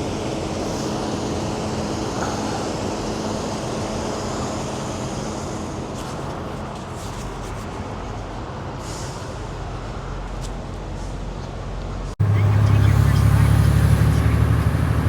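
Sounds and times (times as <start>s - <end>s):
road or air noise: 0.0s - 15.0s
truck engine droning: 0.0s - 15.0s.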